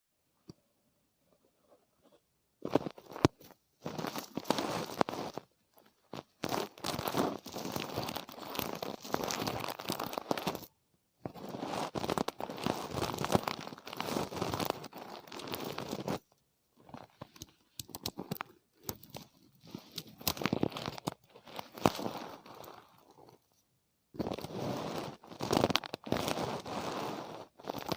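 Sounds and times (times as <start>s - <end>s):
close scratching and crinkling: 1.5s - 23.6s, 24.2s - 27.9s.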